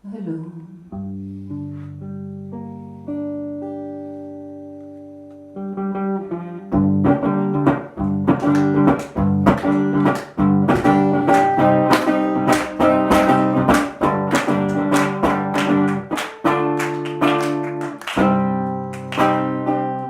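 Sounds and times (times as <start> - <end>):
guitar strumming: 0.9 - 20.0.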